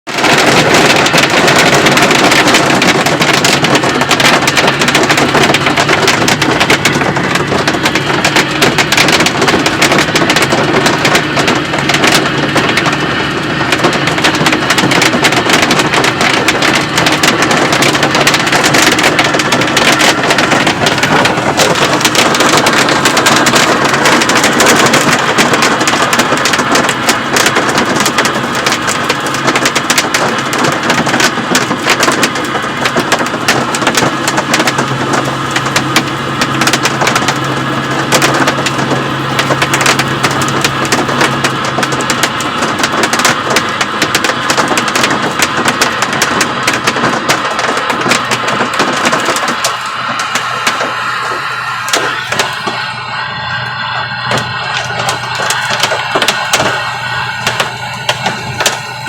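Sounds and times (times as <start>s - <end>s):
large hail pounding: 0.1s - 59.0s.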